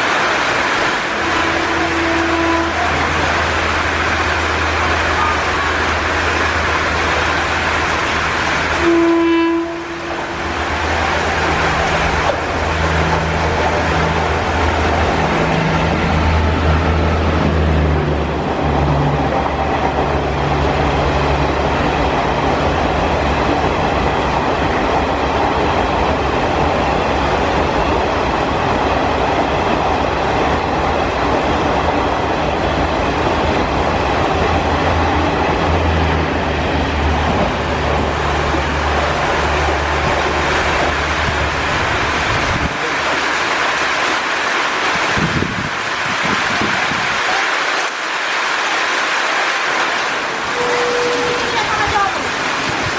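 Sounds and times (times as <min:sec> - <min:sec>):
rain hissing: 0:00.0 - 0:52.9
train wheels rumbling: 0:00.0 - 0:52.9.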